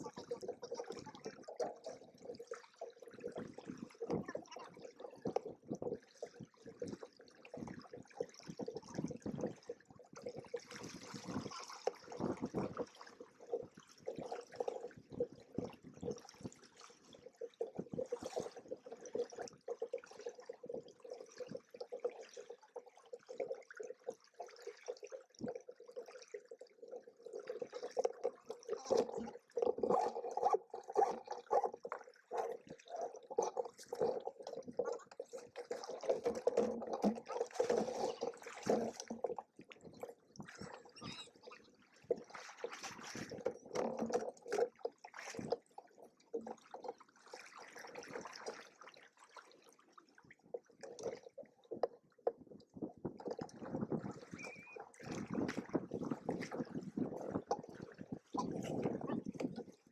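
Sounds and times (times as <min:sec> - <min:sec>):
water sloshing against hulls: 0:00.0 - 0:59.9.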